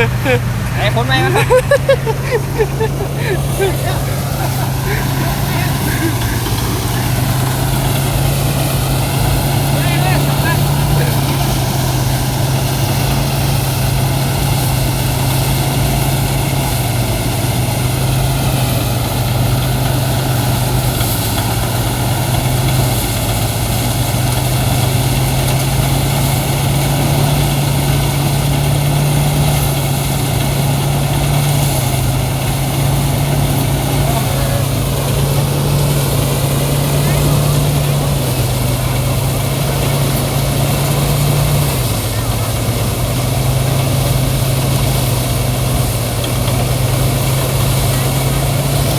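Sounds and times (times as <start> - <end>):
engine low hum: 0.0 - 48.9
threshing drum rattling: 0.0 - 48.9.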